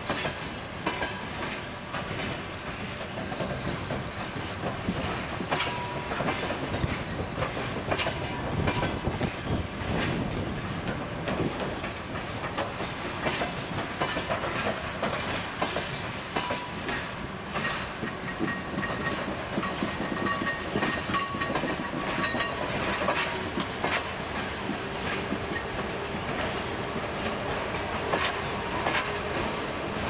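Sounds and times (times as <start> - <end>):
railway coaches rumbling: 0.0 - 30.0
train wheels clicking over joints: 0.0 - 30.0.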